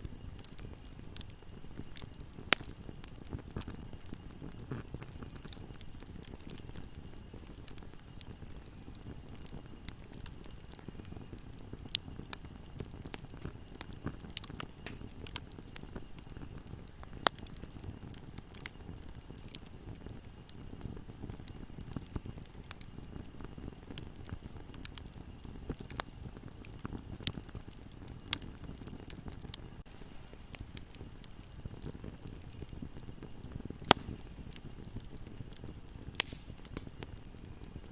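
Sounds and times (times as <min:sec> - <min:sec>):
fire crackles and pops: 0:00.0 - 0:37.9
low rumble of flames: 0:00.0 - 0:37.9.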